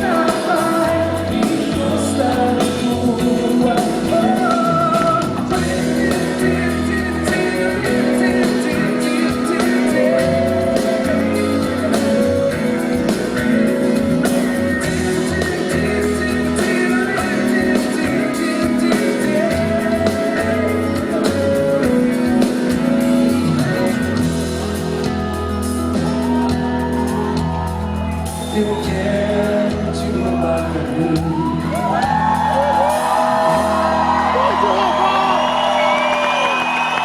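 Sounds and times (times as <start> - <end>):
live band led by guitar: 0.0 - 37.0.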